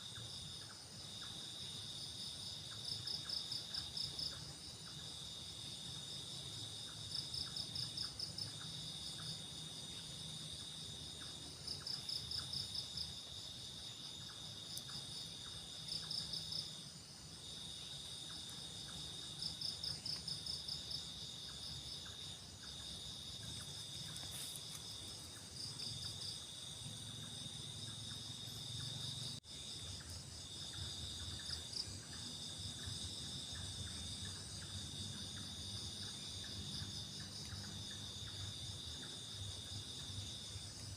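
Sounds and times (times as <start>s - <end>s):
insects chirring: 0.0s - 40.9s
pulsing insect trills: 0.0s - 40.9s.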